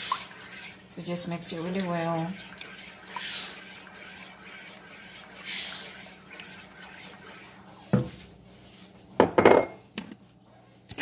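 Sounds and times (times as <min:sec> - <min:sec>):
spatula stirring sauce in pan: 0:00.0 - 0:09.0
low steady hum: 0:00.0 - 0:11.0.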